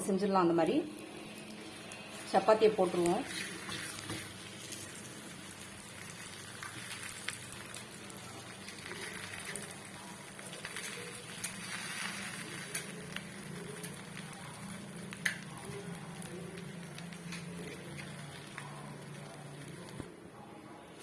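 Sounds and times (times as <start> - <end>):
flatbread sizzling on a griddle: 0.6 - 20.1.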